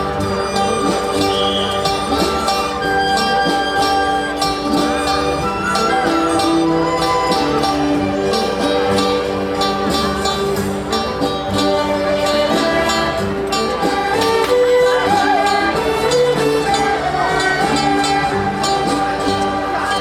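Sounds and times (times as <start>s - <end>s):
lively plucked guitar music: 0.0s - 20.0s.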